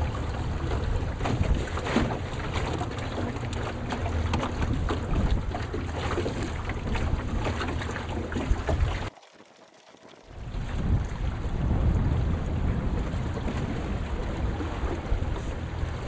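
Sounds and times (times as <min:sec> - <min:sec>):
wind buffeting microphone: 0:00.0 - 0:09.1, 0:10.3 - 0:16.0.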